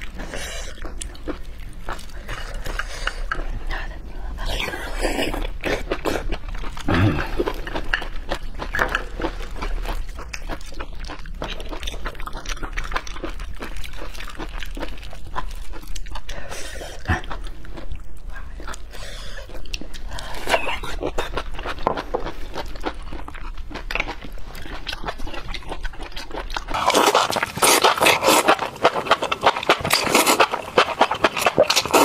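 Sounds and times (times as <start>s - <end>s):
clam meat being chewed: 0.0s - 32.0s.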